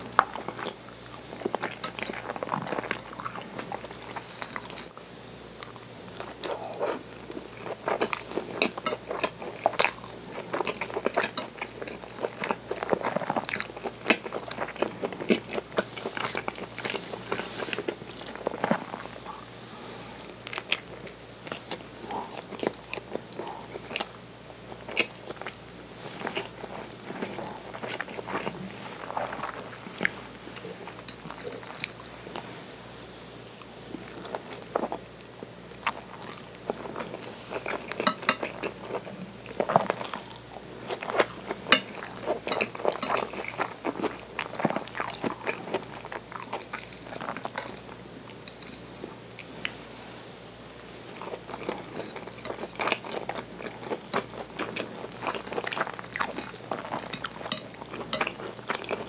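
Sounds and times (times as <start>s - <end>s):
close chewing with mouth clicks: 5.6s - 19.5s, 20.4s - 32.1s, 33.6s - 49.8s, 50.5s - 59.0s.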